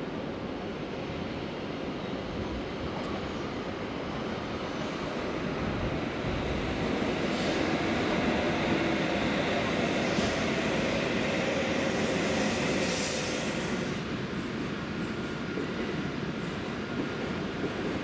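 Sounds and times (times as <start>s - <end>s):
train rumble and hiss: 0.0s - 18.0s.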